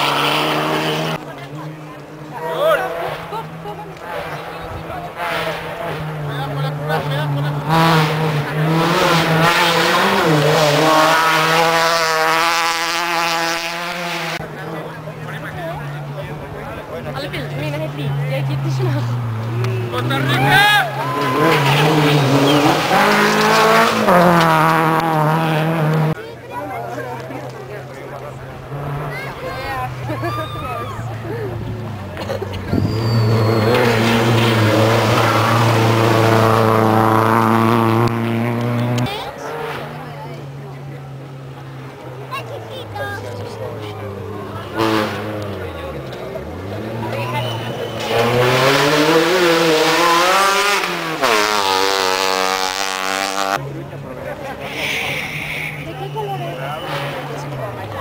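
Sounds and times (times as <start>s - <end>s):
rally car engine revving passing: 0.0s - 58.0s.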